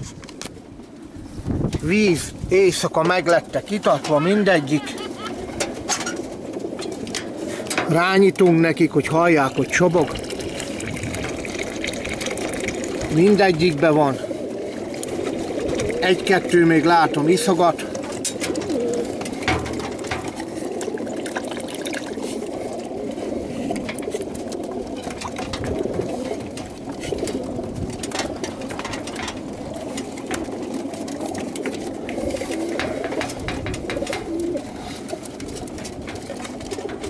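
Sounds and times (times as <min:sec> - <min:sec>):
pigeons cooing: 0:00.7 - 0:37.0.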